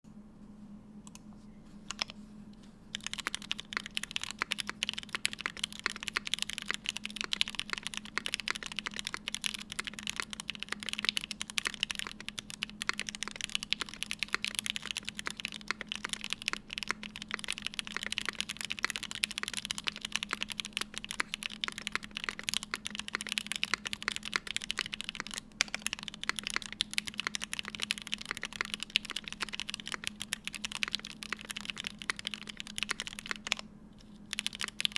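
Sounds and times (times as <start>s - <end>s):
mechanical keyboard typing: 2.9s - 33.6s, 34.3s - 34.9s.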